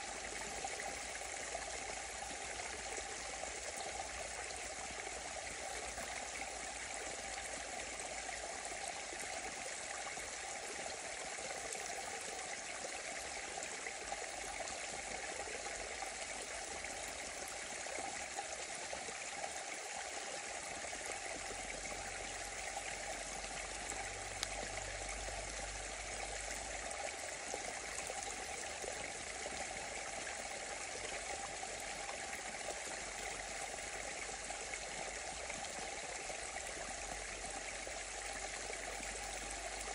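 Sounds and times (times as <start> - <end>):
stream rushing and trickling: 0.0 - 39.9.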